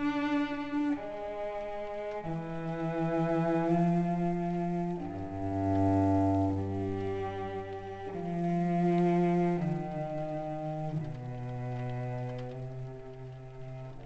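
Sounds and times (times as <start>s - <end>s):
slow music of sustained low notes: 0.0s - 14.0s.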